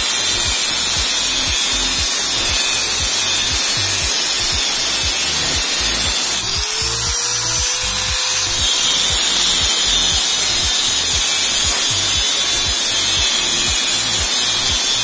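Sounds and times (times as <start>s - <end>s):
angle grinder cutting metal: 0.0s - 15.0s
background music with steady beat: 0.0s - 15.0s.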